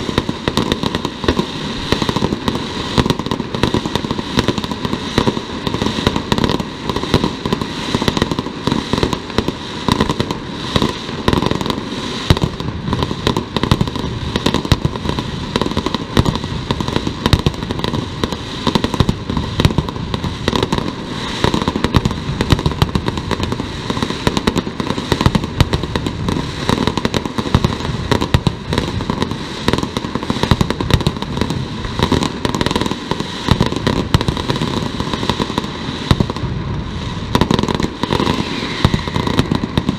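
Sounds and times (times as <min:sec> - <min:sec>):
firecrackers barrage: 0:00.0 - 0:39.9.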